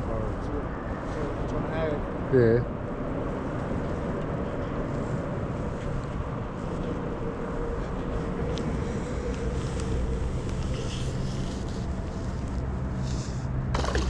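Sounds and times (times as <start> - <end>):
low background rumble and hiss: 0.0 - 14.0.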